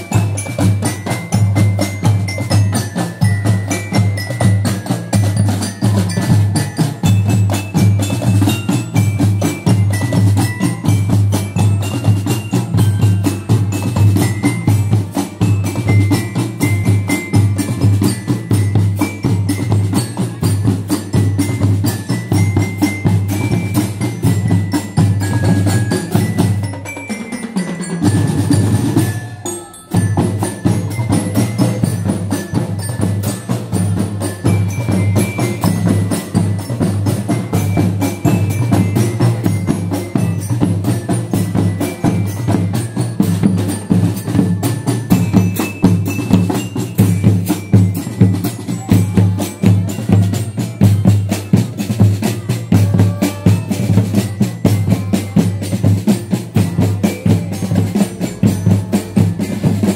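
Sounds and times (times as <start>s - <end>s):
mallet keyboard melody: 0.0s - 59.9s.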